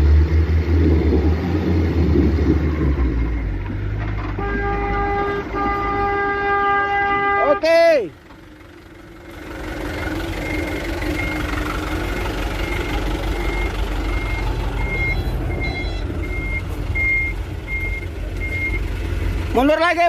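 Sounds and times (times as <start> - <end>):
diesel engine rumble: 0.0 - 20.0
truck reversing beeper: 1.1 - 7.6, 8.9 - 19.4.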